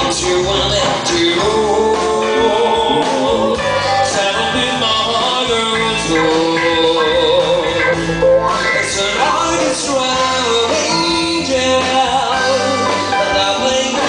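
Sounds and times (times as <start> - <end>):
drum kit: 0.0 - 14.0
electric guitars: 0.0 - 14.0
keyboard: 0.0 - 14.0
person singing: 0.0 - 14.0.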